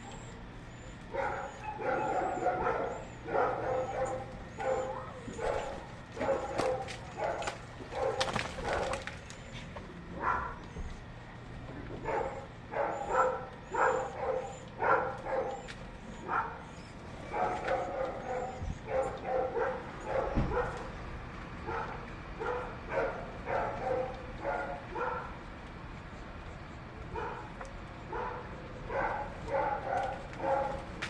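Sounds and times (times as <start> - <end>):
dog barking and yipping: 0.0 - 9.5, 10.2 - 10.7, 12.0 - 20.9, 21.6 - 25.4, 27.1 - 31.0.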